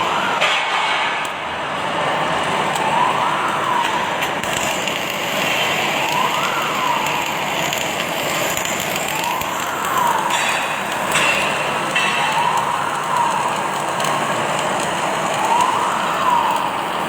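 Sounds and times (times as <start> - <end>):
factory hiss and clatter: 0.0 - 17.0
warning siren wailing: 0.0 - 17.0.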